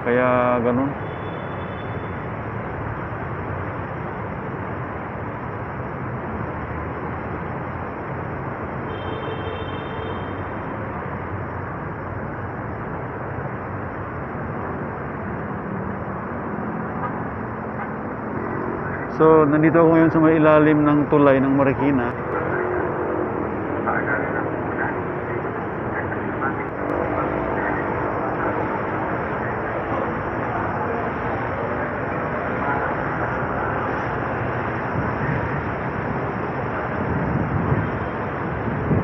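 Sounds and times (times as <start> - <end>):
steady rushing outdoor noise: 0.0 - 39.0.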